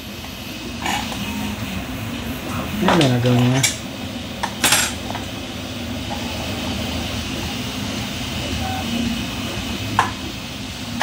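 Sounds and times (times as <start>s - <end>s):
steady rushing noise: 1.7s - 11.0s.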